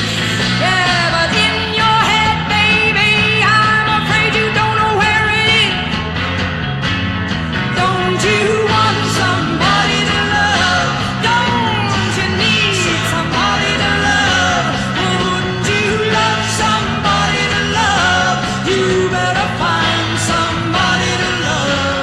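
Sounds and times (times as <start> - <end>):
rock band playing: 0.0 - 22.0
sliding bending lead guitar: 0.0 - 22.0.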